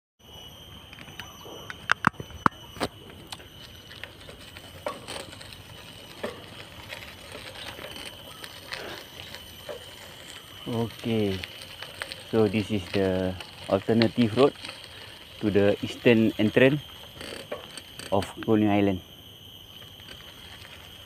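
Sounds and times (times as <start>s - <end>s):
bicycle rattling on rough track: 0.4s - 21.0s.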